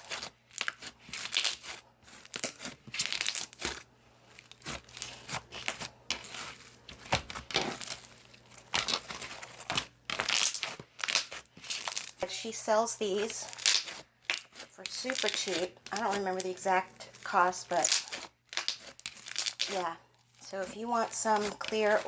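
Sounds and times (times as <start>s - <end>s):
slime crackling and squishing: 0.0s - 22.0s.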